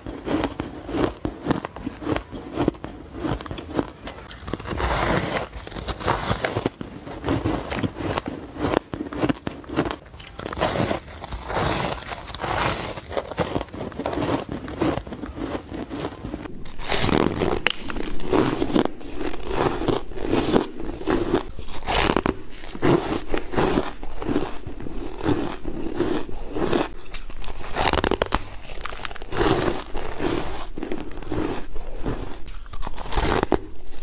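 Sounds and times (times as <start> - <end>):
crunching and chewing ice: 0.0 - 34.0.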